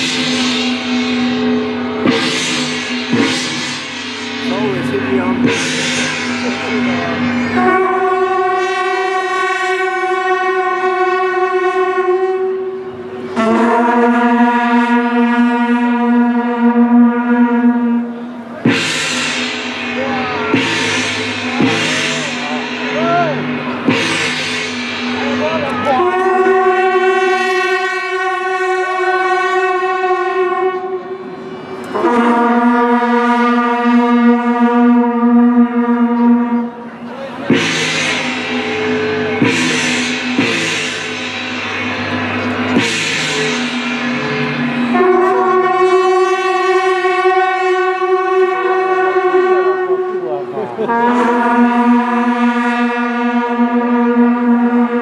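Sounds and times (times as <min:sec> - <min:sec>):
horn-like notes over loudspeakers: 0:00.0 - 0:55.0.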